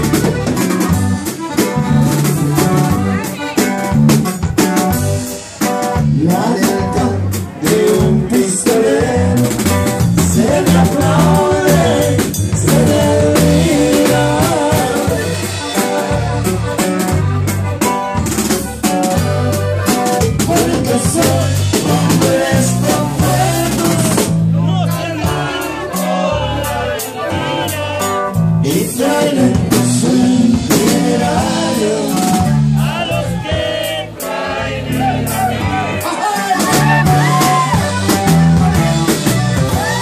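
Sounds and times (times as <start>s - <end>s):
band playing: 0.0s - 40.0s
button accordion melody: 0.0s - 40.0s.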